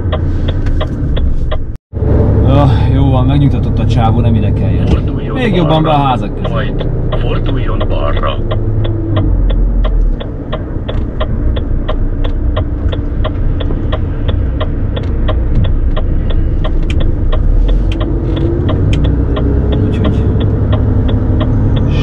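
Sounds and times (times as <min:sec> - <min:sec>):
turn signal ticking: 0:00.0 - 0:01.8, 0:02.8 - 0:22.0
diesel engine rumbling: 0:00.0 - 0:22.0.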